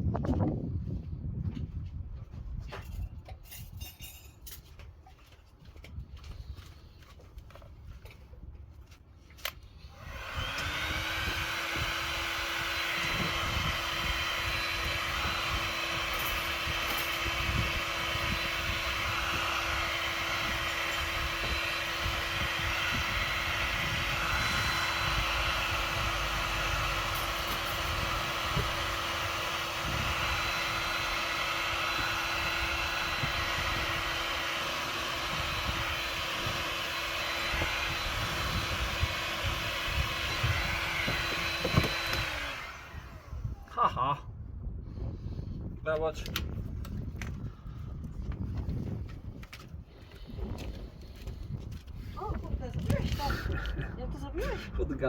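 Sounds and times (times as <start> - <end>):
heat gun blowing and whining: 9.4 - 43.8, 44.8 - 54.5.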